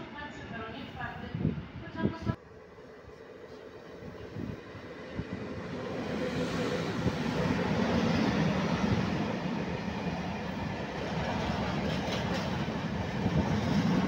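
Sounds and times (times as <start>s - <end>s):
electric locomotive passing: 0.0s - 14.0s.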